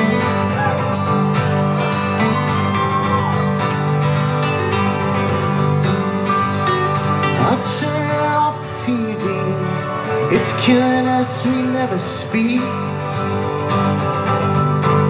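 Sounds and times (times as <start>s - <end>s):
strummed acoustic guitars: 0.0s - 15.0s.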